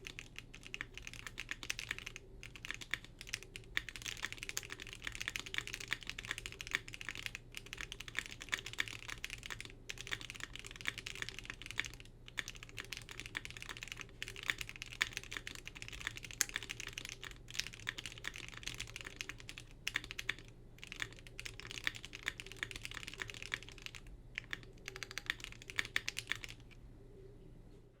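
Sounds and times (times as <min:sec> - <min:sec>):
mechanical keyboard typing: 0:00.0 - 0:26.8.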